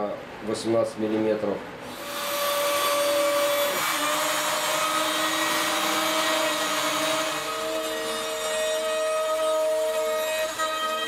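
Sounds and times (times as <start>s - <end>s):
router spindle whine: 1.9s - 11.0s
wood being cut hiss: 1.9s - 11.0s.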